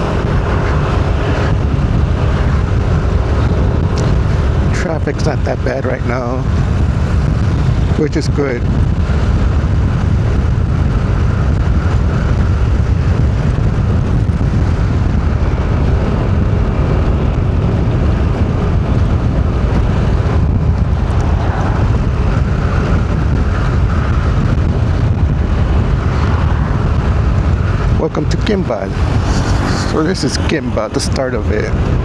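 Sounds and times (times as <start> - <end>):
car road and engine rumble: 0.0 - 32.0
wind noise on microphone: 0.0 - 32.0.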